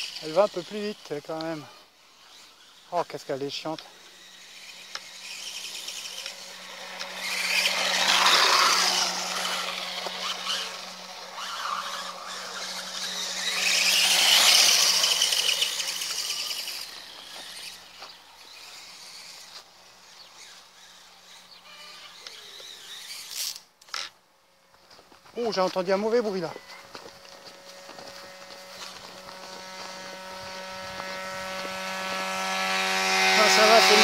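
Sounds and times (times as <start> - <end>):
tyres churning grass: 0.0 - 19.4, 25.4 - 34.0
rc dirt bike motor whining: 0.0 - 24.2, 25.4 - 34.0.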